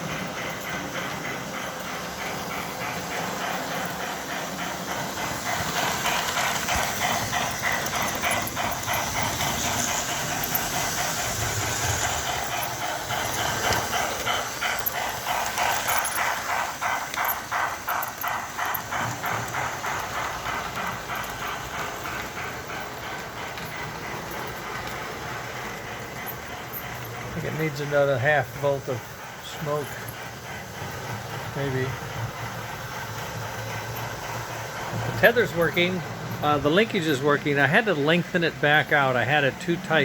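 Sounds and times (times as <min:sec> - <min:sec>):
model locomotive steam chuff: 0:00.0 - 0:40.0.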